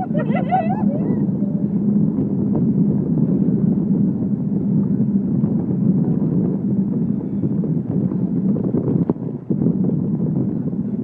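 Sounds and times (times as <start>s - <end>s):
road and engine rumble in vehicle: 0.0s - 11.0s.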